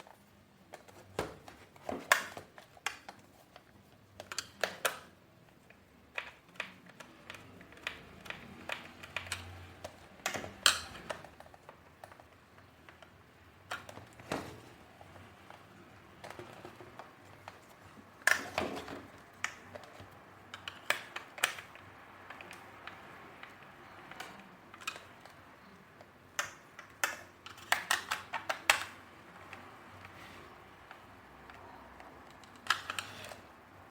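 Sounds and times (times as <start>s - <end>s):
plastic parts clicking and knocking: 0.0s - 33.9s.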